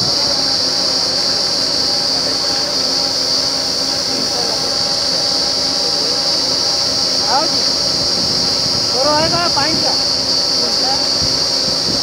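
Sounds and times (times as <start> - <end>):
drilling rig high-pitched hiss: 0.0 - 12.0
low machine hum: 0.0 - 12.0.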